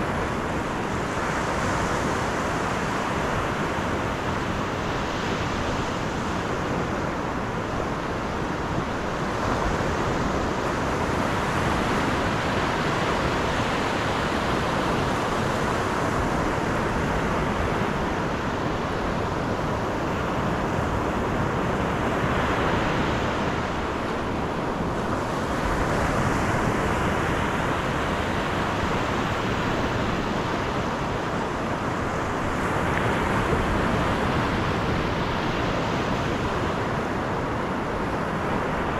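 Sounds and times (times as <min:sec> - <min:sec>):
car road and wind noise: 0:00.0 - 0:38.9.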